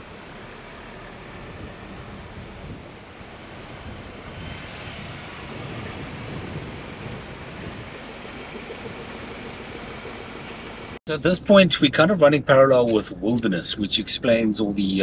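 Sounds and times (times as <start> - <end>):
road noise inside vehicle cab: 0.0 - 15.0.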